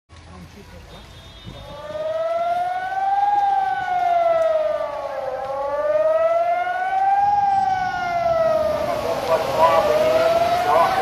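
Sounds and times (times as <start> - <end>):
heavy rain: 0.1 - 11.0
warning siren wailing: 1.0 - 11.0.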